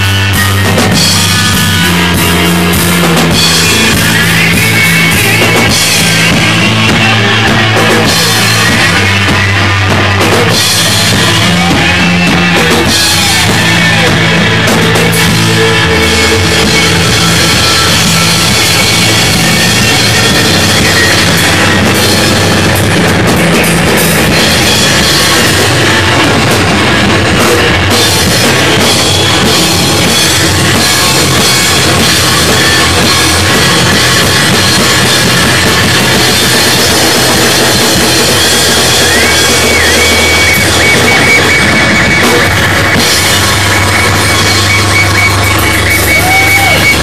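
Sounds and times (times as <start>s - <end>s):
rock band playing loudly: 0.0s - 47.0s.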